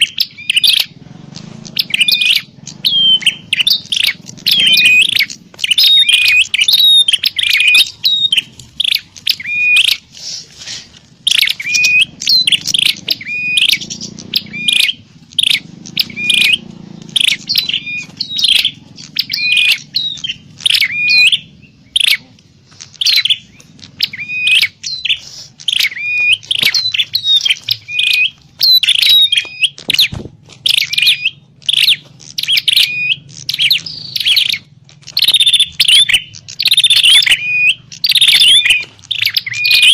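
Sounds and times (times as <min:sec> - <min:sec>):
bird chirping in fast runs: 0:00.0 - 0:10.1, 0:11.0 - 0:39.9.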